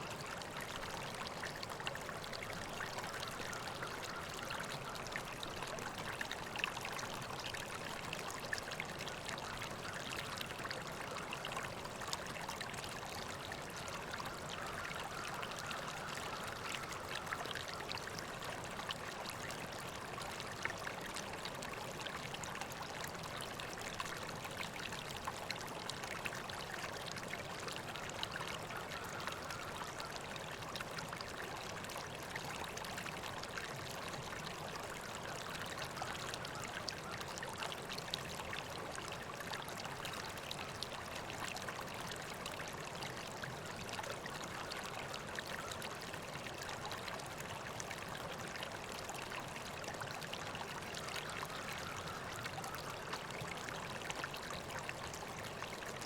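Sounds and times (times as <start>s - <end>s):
river water flowing: 0.0s - 56.0s
small splashes and trickles: 0.0s - 56.0s.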